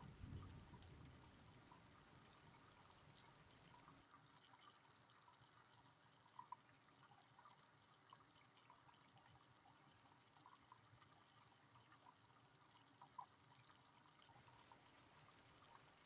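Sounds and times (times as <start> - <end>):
faint rain hiss: 0.0 - 16.0.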